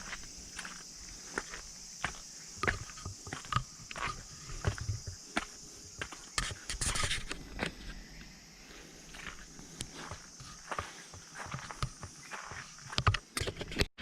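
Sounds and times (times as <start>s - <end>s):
steady high hiss: 0.0s - 12.9s
footsteps on rough ground: 0.0s - 13.9s.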